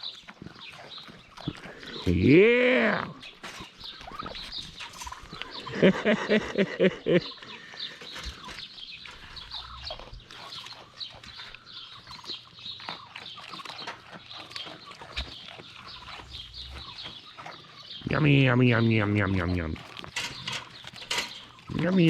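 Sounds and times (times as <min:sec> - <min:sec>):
poultry chirping: 0:00.0 - 0:02.4, 0:03.0 - 0:22.0.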